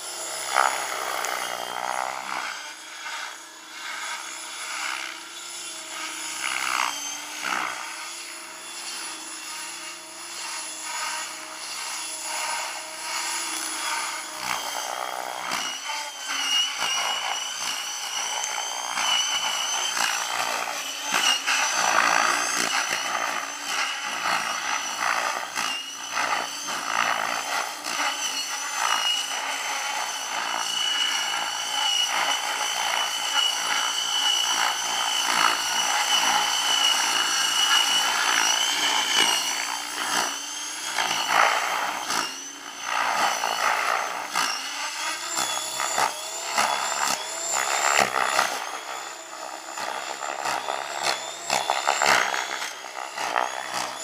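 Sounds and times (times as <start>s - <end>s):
model helicopter whine: 0.0s - 54.0s.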